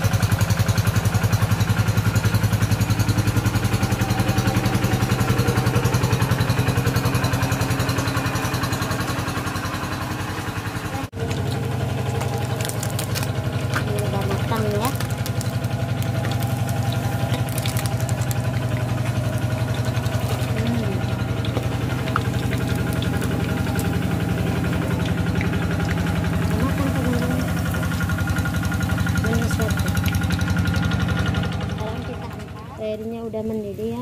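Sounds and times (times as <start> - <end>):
small engine idling: 0.0 - 34.0.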